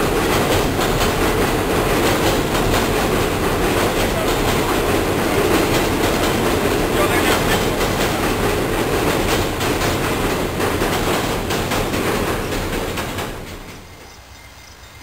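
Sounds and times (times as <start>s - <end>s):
train rumbling past: 0.0s - 15.0s
wheels clacking over rail joints: 0.0s - 15.0s.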